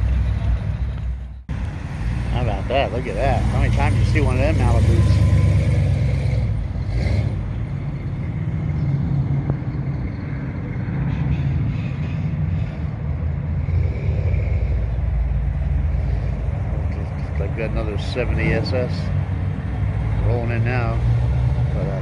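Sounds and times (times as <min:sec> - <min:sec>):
car engine exhaust rumble: 0:00.0 - 0:22.0.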